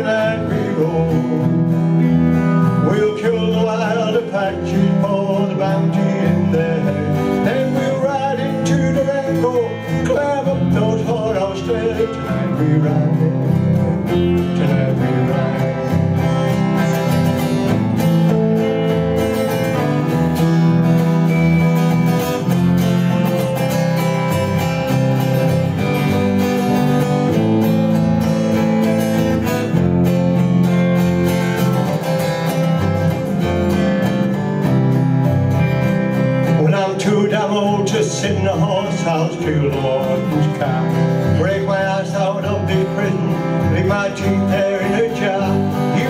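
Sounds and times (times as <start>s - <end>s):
electric bass: 0.0s - 46.0s
electric guitar: 0.0s - 46.0s
strummed acoustic guitar: 0.0s - 46.0s.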